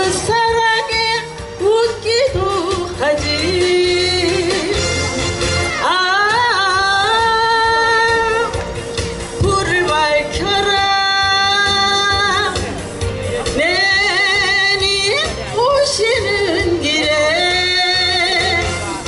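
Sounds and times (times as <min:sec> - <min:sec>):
woman singing into microphone: 0:00.0 - 0:05.0, 0:05.7 - 0:19.0
backing track music: 0:00.0 - 0:19.0.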